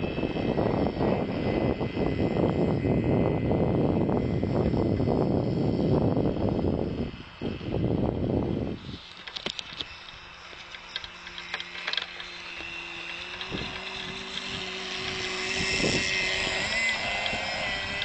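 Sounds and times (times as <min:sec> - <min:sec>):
model boat engine whine: 0:00.0 - 0:18.0
wind gusts on microphone: 0:00.0 - 0:18.0.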